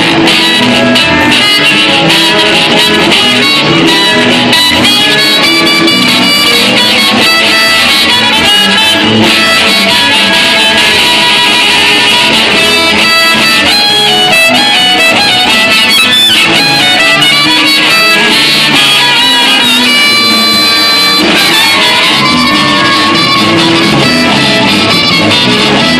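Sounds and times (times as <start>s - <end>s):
harmonica: 0.0s - 25.9s
live blues band playing: 0.0s - 25.9s.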